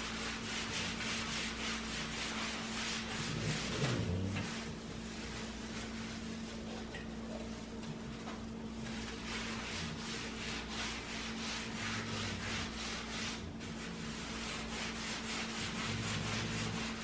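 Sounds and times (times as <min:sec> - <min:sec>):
cloth rag rubbing on wood: 0:00.0 - 0:17.0.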